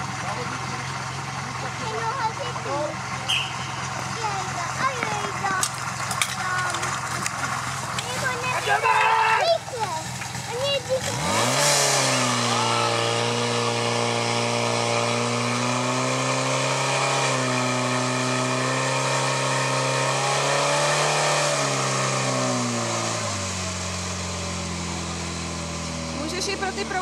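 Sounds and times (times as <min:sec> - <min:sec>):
fire pump engine running: 0:00.0 - 0:27.0.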